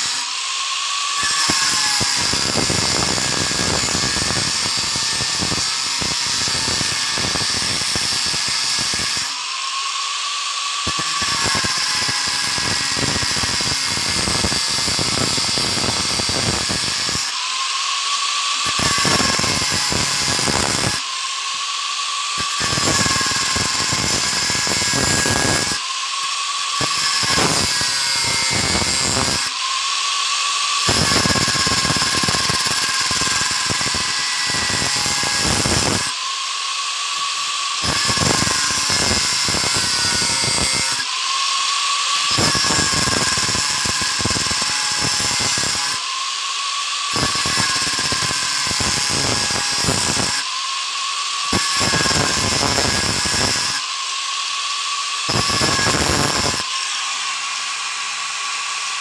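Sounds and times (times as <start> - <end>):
angle grinder motor whine: 0.0 - 59.0
grinding disc cutting wire: 0.0 - 59.0.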